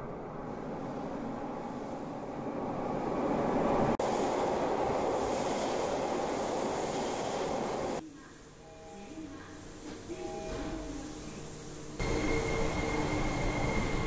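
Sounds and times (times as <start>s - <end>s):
subway train rumbling in: 0.0s - 14.0s.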